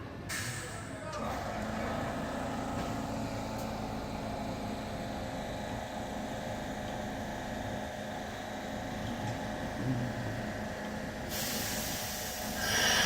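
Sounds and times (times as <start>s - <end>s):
train rumbling: 0.0s - 13.0s
train motor hum and whine: 0.1s - 13.0s.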